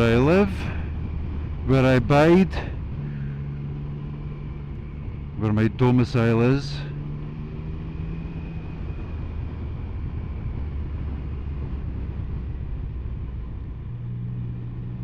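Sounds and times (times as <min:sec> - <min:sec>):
motorcycle engine: 0:00.0 - 0:15.0
steady rushing noise: 0:00.0 - 0:15.0.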